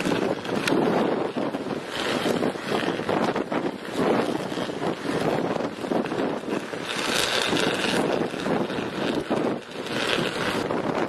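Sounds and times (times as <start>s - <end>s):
power arc crackling: 0.0s - 11.0s.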